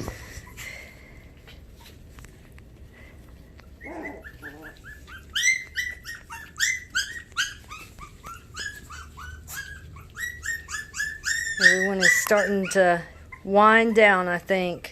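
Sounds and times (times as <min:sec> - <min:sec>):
puppy whimpering: 0:00.0 - 0:02.1, 0:03.6 - 0:14.5.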